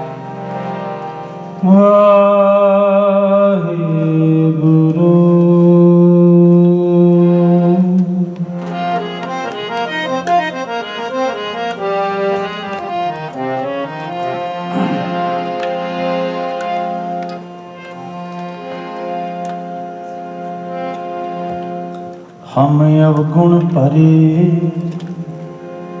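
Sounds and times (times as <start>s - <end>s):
harmonium playing chords: 0.0s - 26.0s.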